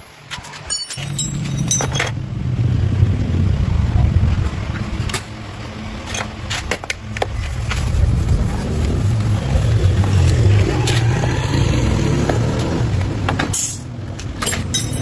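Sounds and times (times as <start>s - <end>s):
motorbike engine revving: 1.0s - 14.2s.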